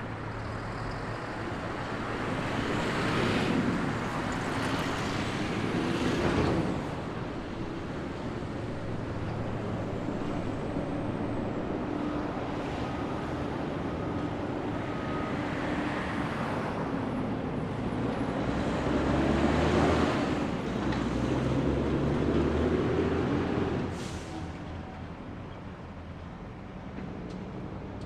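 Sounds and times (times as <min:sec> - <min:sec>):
locomotive diesel engines droning: 0:00.0 - 0:28.0.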